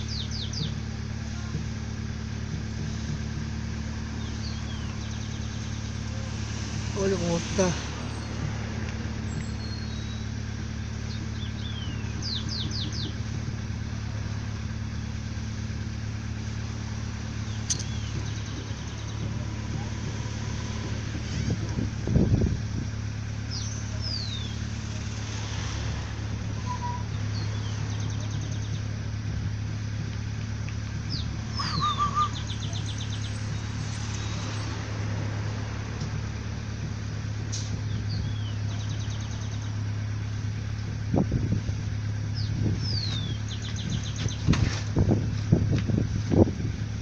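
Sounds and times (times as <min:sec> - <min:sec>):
birds chirping: 0:00.0 - 0:41.0, 0:41.8 - 0:44.8
engine idling hum: 0:00.0 - 0:47.0.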